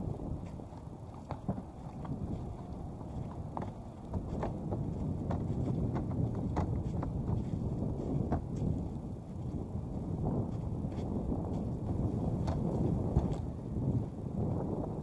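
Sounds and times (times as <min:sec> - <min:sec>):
horse hooves knocking: 0:00.0 - 0:09.5, 0:10.5 - 0:13.4
wind rumble on microphone: 0:00.0 - 0:15.0.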